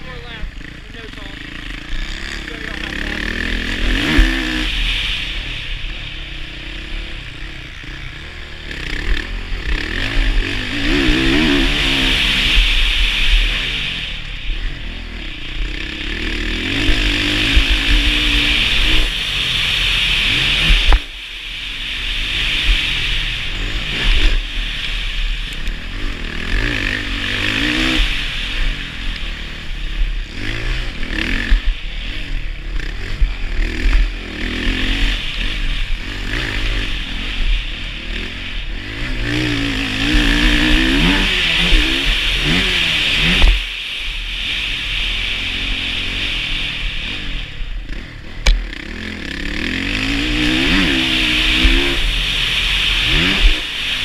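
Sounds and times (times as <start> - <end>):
dirt bike engine revving: 0.0 - 54.0
wind noise hiss: 3.3 - 54.0.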